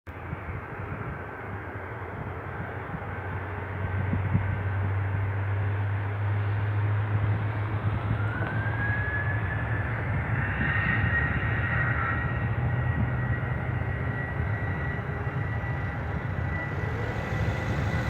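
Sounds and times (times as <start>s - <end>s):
jet engine whine: 0.1s - 18.0s
jet engines rumbling: 0.2s - 18.0s.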